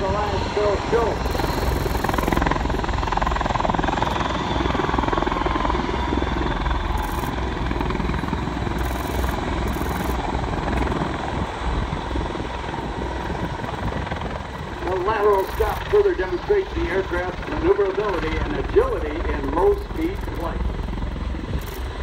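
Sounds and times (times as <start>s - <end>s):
faint engine whine: 0.0s - 22.0s
tiltrotor aircraft rotor drone: 0.0s - 22.0s.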